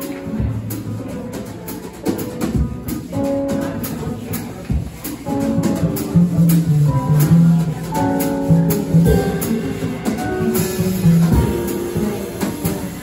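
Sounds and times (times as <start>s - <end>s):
piano: 0.0s - 13.0s
plucked upright bass: 0.0s - 13.0s.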